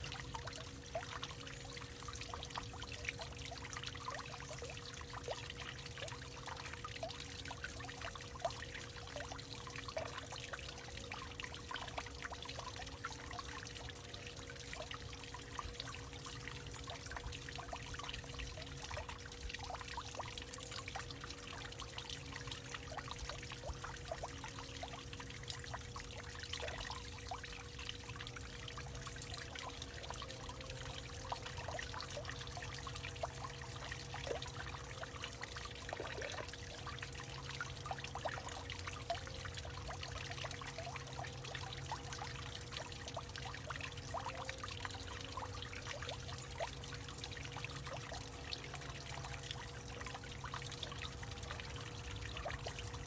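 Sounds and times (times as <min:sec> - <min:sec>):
faint steady hum: 0:00.0 - 0:53.0
water trickling and dripping: 0:00.0 - 0:53.0.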